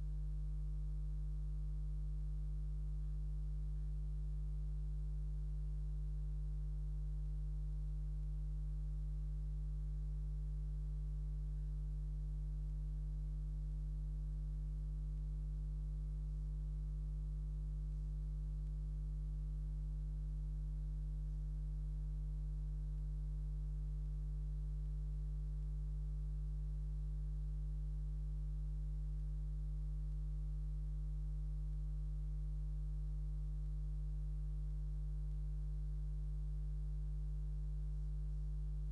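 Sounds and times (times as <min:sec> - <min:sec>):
low electrical hum: 0:00.0 - 0:38.9.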